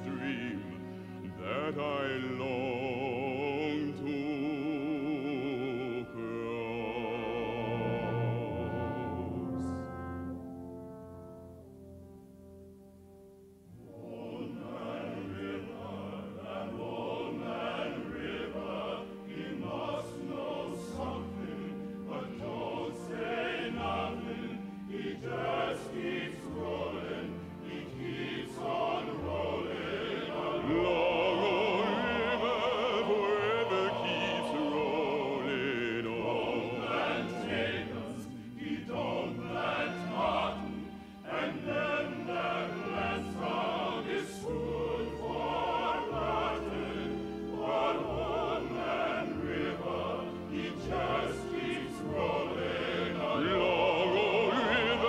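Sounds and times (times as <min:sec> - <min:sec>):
men singing operatically: 0:00.0 - 0:09.8, 0:13.9 - 0:55.0
pit orchestra playing: 0:00.0 - 0:55.0.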